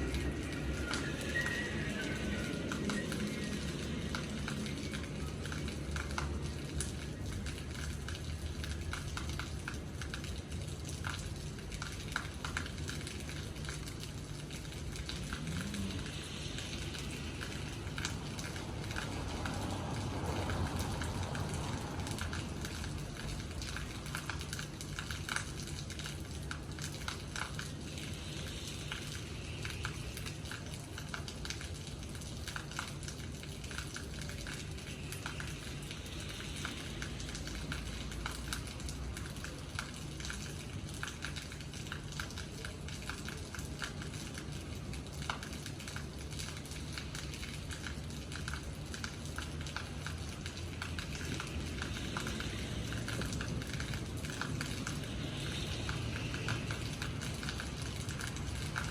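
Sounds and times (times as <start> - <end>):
raindrops ticking on hard surface: 0.0 - 58.9.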